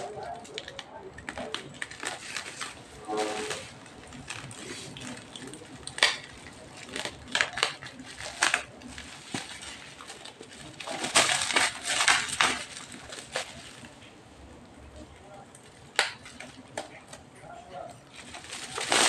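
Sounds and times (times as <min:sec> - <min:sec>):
tape peeling crackles: 0:00.0 - 0:14.0, 0:15.3 - 0:19.0
bubble wrap crinkling: 0:00.0 - 0:19.0.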